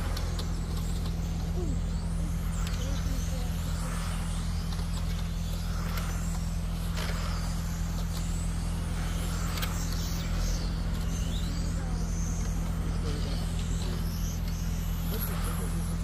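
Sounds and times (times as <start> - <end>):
steady low hum: 0.0 - 16.0
toy car motors whining: 0.0 - 16.0.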